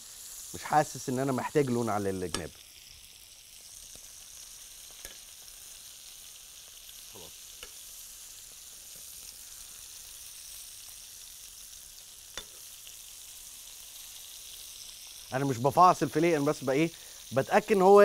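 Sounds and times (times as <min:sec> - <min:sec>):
meat sizzling in a frying pan: 0:00.0 - 0:18.0.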